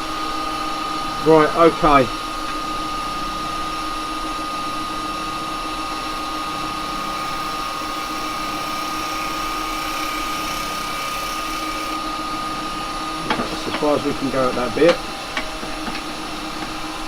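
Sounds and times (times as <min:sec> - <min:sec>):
workshop machinery whine: 0:00.0 - 0:17.0.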